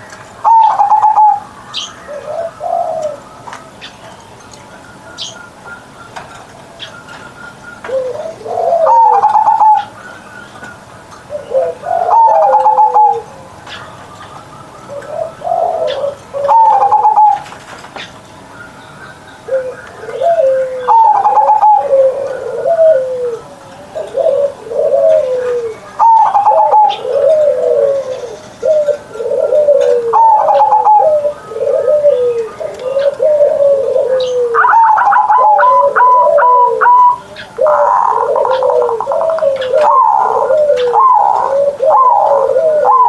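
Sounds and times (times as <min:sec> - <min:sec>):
dove cooing: 0:00.0 - 0:43.0.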